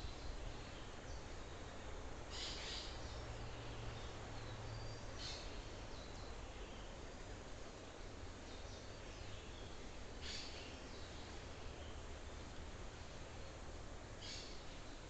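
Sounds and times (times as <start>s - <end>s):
soft steady hiss: 0.0s - 15.0s.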